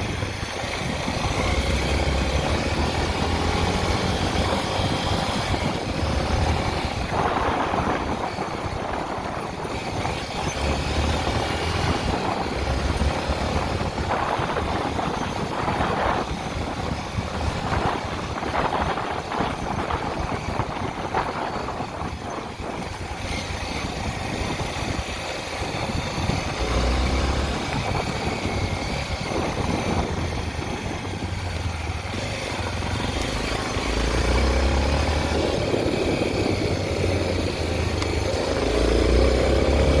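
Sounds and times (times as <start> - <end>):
motorcycle engine running: 0.0 - 40.0
road noise: 0.0 - 40.0
wind rush: 0.0 - 40.0.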